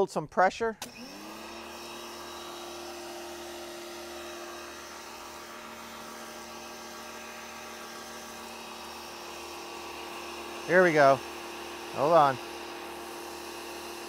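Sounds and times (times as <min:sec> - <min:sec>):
pressure washer motor hum: 0:00.8 - 0:14.0.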